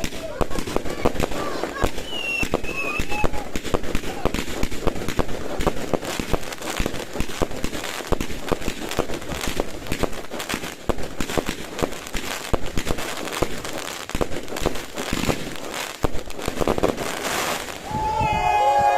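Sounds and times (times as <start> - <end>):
fireworks crackling and banging: 0.0 - 18.9.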